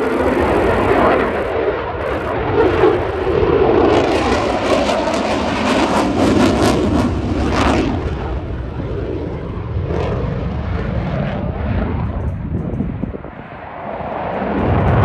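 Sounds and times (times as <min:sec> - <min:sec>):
jet engine noise with crackle: 0:00.0 - 0:15.0.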